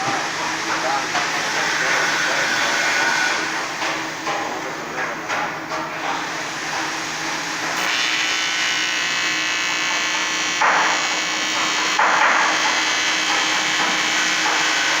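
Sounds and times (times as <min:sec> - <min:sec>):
welding arc buzzing hiss: 0:00.0 - 0:15.0.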